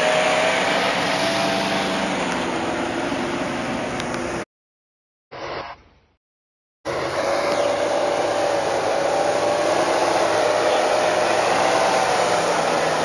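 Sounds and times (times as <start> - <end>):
engine at high revs: 0.0 - 4.4, 6.9 - 13.0.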